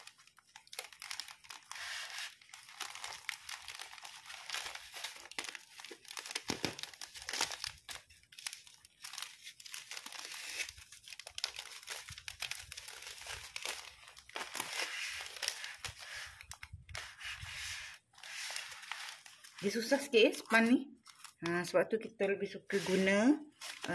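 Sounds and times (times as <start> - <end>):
foil sachets crackling: 0.0 - 21.5, 22.6 - 23.9
plastic wrapping crinkling: 0.0 - 21.8, 22.4 - 23.9.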